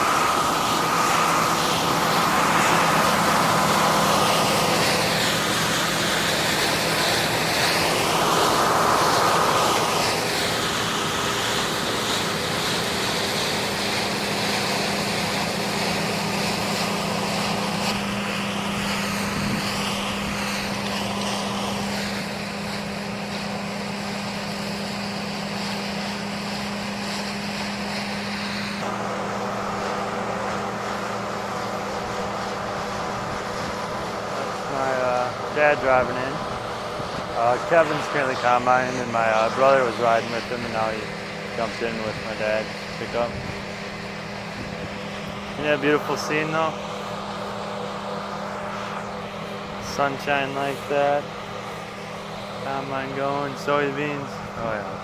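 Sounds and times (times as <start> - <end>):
diesel engine hum: 0.0 - 55.0
machine and air noise: 0.0 - 55.0.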